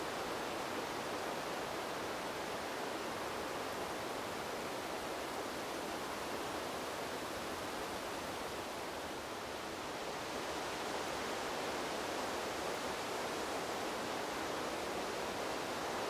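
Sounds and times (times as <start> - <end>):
wind blowing through trees: 0.0 - 16.0.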